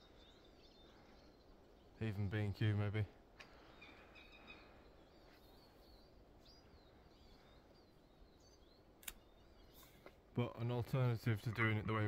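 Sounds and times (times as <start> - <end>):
faint bird calls: 0.0 - 10.3.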